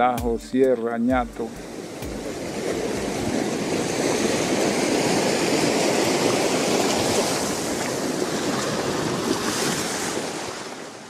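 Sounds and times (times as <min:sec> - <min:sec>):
water washing at shoreline: 0:00.0 - 0:11.0.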